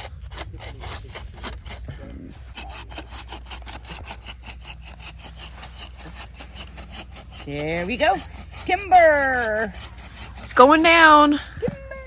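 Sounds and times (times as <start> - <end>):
hand saw cutting tree trunk: 0.0 - 12.0.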